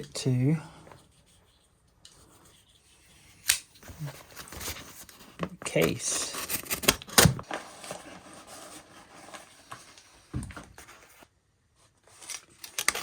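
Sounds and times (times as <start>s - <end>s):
faint packaging rustling: 0.8s - 13.0s.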